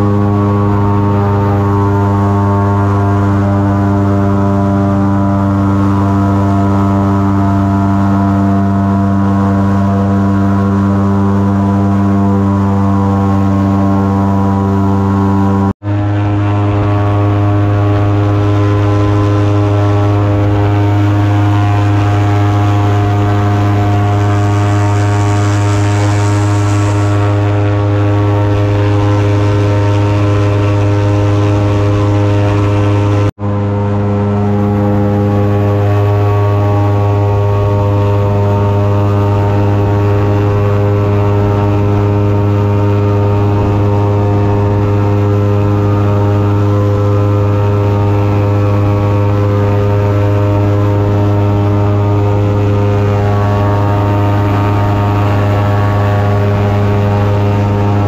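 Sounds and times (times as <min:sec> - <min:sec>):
airboat engine and propeller drone: 0:00.0 - 0:58.0.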